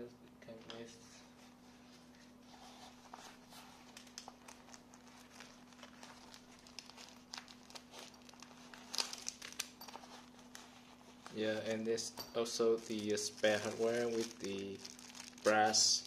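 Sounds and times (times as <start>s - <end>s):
plastic packaging crinkling: 3.0s - 16.0s.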